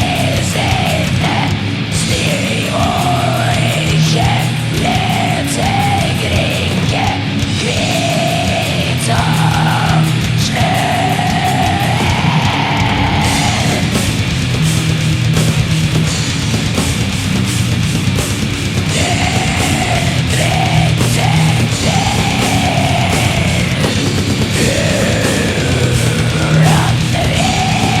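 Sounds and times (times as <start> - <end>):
harsh yelled vocals: 0.0 - 16.2, 18.7 - 28.0
distorted guitars: 0.0 - 28.0
fast drumming with cymbals: 0.0 - 28.0.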